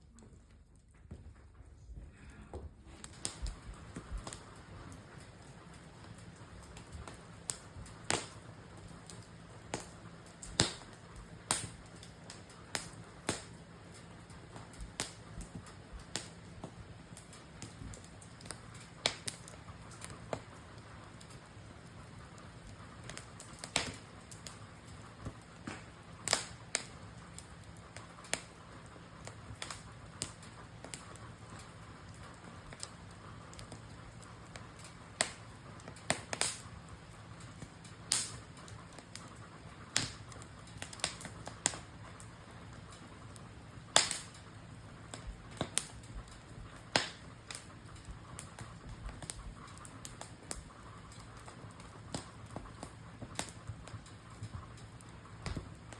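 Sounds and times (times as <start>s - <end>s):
campfire crackling and popping: 2.9s - 55.9s.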